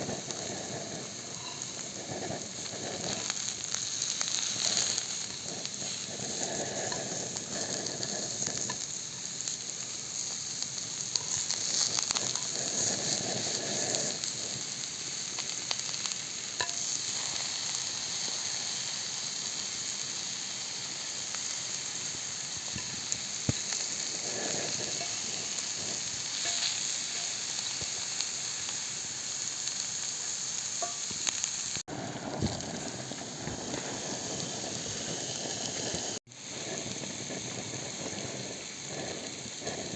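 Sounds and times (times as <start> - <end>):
eggs sizzling in a frying pan: 0.0 - 39.9.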